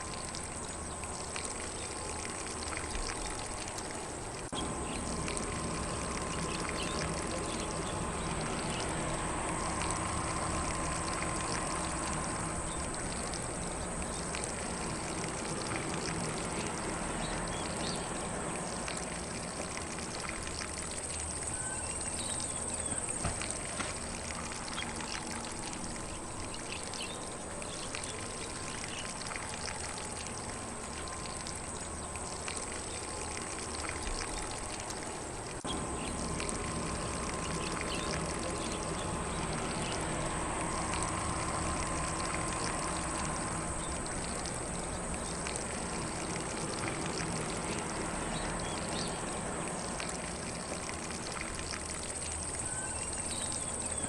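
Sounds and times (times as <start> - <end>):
faint birdsong: 0.0 - 54.0
lawn sprinkler spraying water: 0.0 - 54.0.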